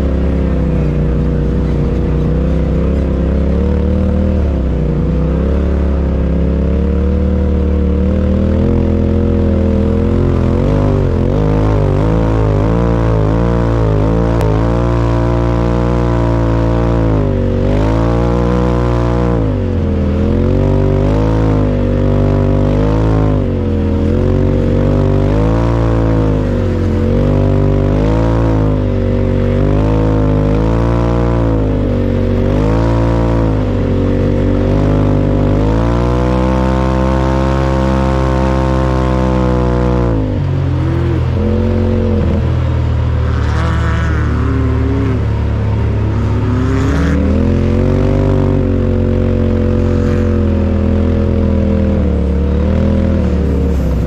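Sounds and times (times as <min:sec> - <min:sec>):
off-road vehicle engine running hard: 0:00.0 - 0:54.0.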